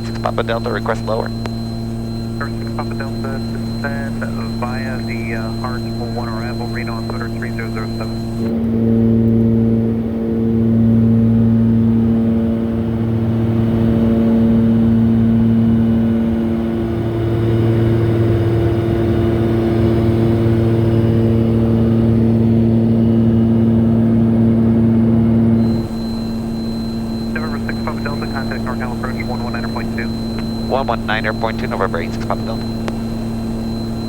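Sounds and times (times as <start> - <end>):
aircraft engines droning in cabin: 0.0 - 34.0.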